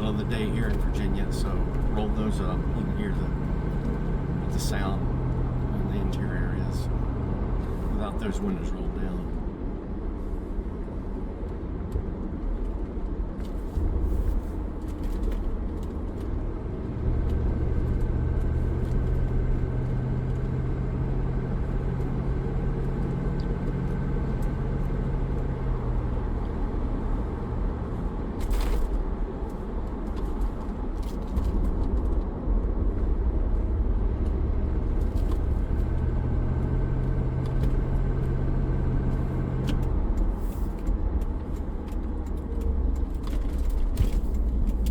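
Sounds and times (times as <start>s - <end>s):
car engine drone: 0.0s - 44.9s
road rumble: 0.0s - 44.9s.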